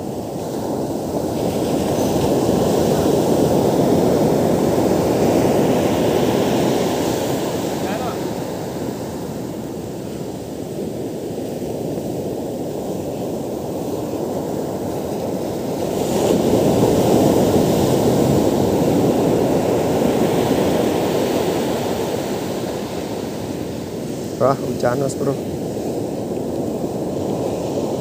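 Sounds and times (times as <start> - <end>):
surf breaking on a beach: 0.0 - 28.0
wind on microphone: 0.0 - 28.0.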